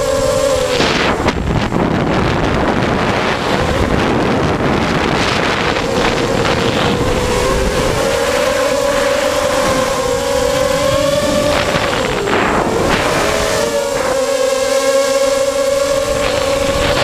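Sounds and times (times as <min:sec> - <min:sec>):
drone motors whining: 0:00.0 - 0:17.0
wind buffeting microphone: 0:00.0 - 0:17.0.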